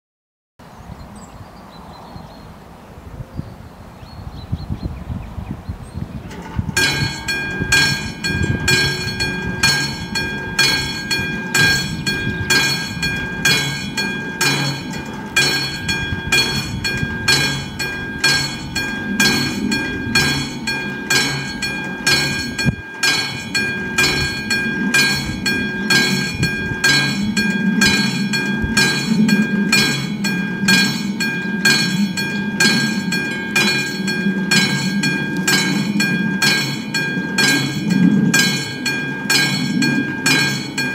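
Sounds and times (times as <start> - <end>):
low rumble: 6.0 - 40.9
level crossing bell ringing: 6.8 - 40.9.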